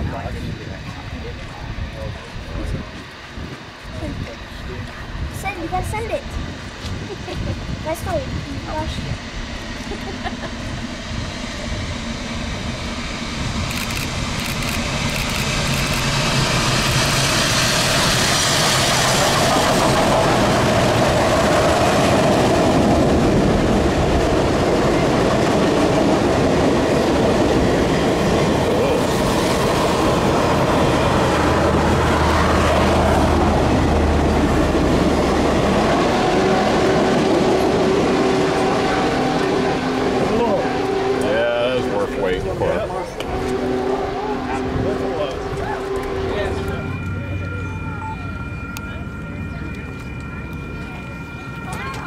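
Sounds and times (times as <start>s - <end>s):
steam locomotive passing: 0.0s - 52.0s.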